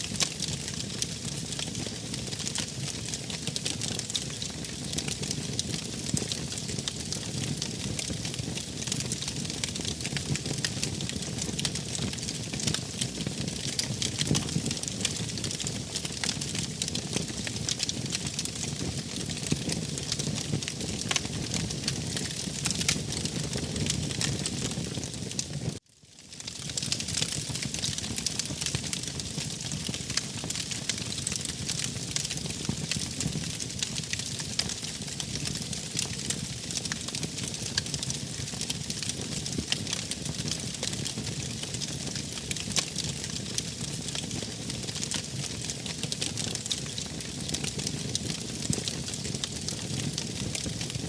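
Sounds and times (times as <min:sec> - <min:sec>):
wood fire crackling: 0:00.0 - 0:25.8, 0:26.4 - 0:51.0.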